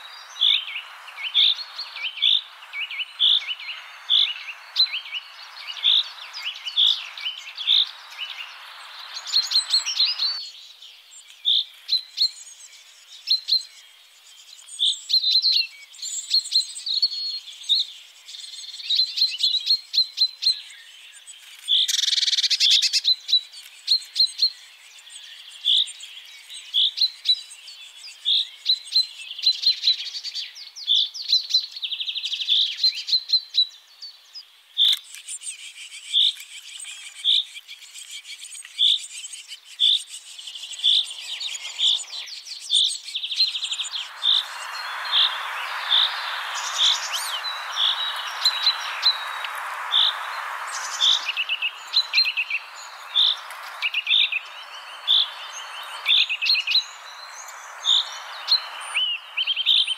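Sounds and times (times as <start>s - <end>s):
birds chirping and trilling: 0.0s - 59.9s
faint hiss: 0.0s - 59.9s.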